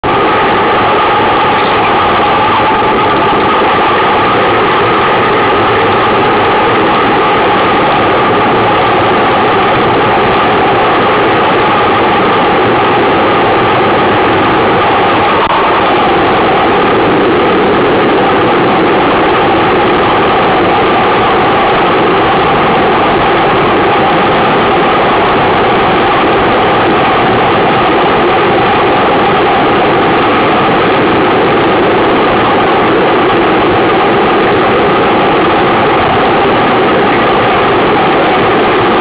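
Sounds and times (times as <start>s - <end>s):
wind on microphone: 0.0s - 39.0s.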